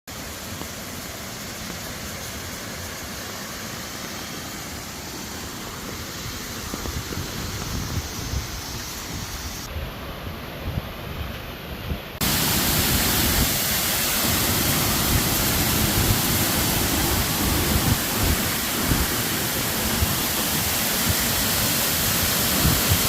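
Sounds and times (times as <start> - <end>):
water rushing from small waterfall: 0.1 - 23.0.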